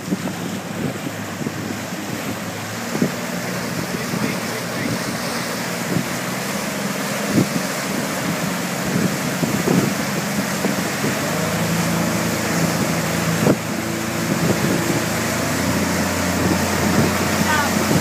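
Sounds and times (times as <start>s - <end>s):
churning water wake: 0.0s - 18.0s
outboard motor drone: 0.0s - 18.0s
wind on microphone: 0.0s - 18.0s.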